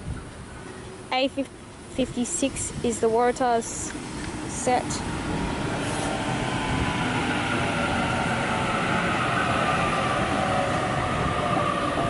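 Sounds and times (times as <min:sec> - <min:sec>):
electric train rumbling: 0:00.0 - 0:12.0
high motor whine: 0:00.0 - 0:12.0.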